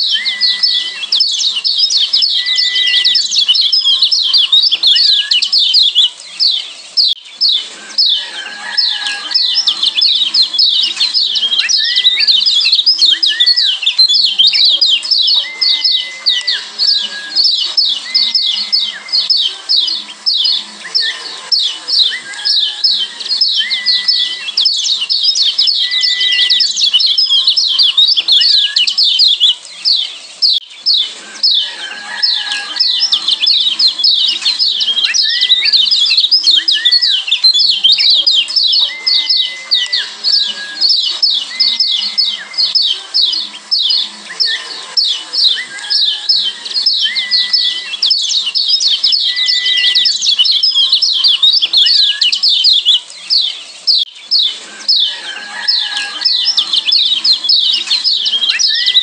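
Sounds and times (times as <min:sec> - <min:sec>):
bird chirping rapidly: 0:00.0 - 0:59.0
low whistled bird notes: 0:00.0 - 0:59.0.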